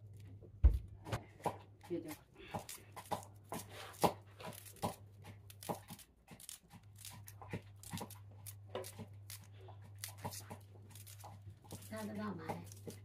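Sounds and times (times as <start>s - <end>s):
low electrical hum: 0.0s - 13.0s
food crunching and chewing: 1.3s - 13.0s.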